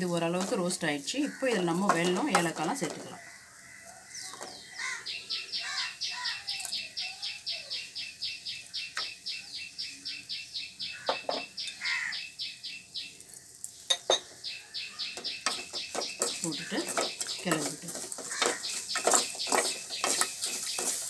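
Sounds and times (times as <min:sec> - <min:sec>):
bird chirping: 0:01.2 - 0:21.0.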